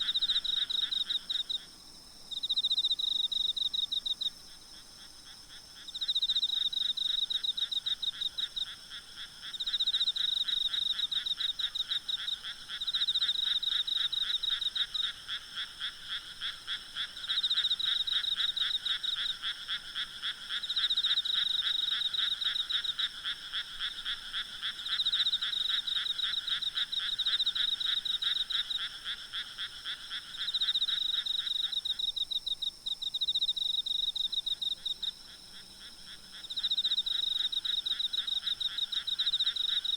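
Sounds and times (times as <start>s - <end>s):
high insect chorus: 0.0s - 39.9s
lower continuous frog trilling: 0.0s - 39.9s.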